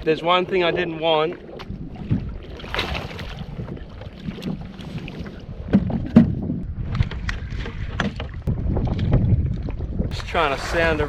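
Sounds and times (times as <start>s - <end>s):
water sloshing against hull: 0.0s - 11.0s
wind on microphone: 0.0s - 11.0s.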